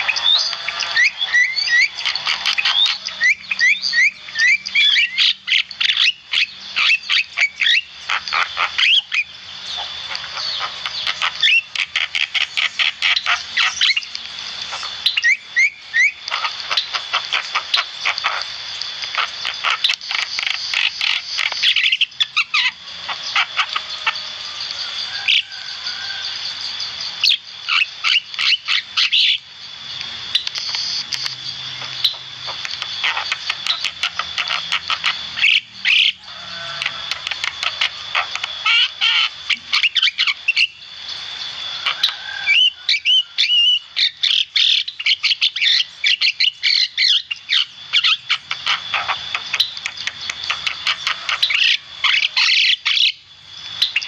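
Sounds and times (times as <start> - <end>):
bird chattering and whistling: 0.0 - 26.3, 27.2 - 29.4, 30.3 - 54.0.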